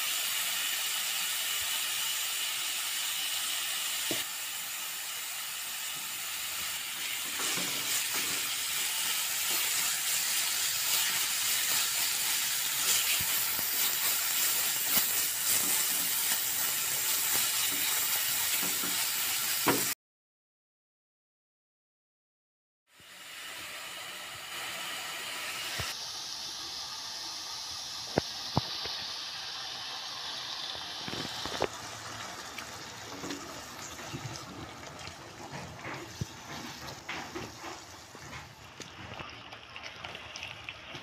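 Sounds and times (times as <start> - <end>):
paste sizzling in hot oil: 0.0 - 20.0, 23.0 - 41.0.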